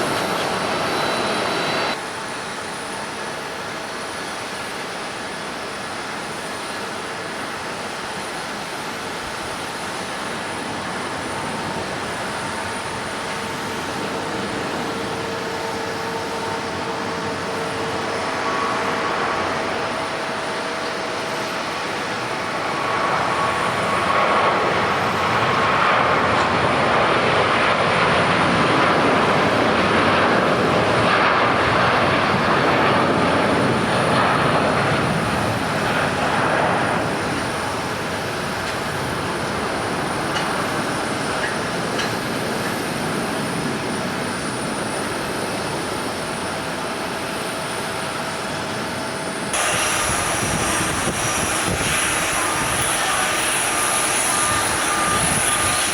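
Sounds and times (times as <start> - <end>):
jet airliner engines passing: 0.0 - 55.9.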